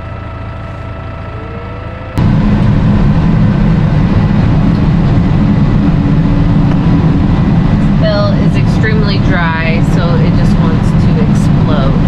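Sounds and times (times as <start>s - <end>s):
tractor diesel engine running: 0.0s - 12.0s
quiet steady hum: 0.6s - 12.0s.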